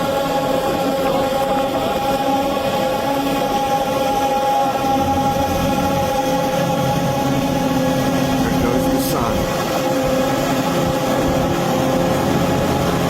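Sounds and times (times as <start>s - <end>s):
choir-like drone music: 0.0s - 13.0s.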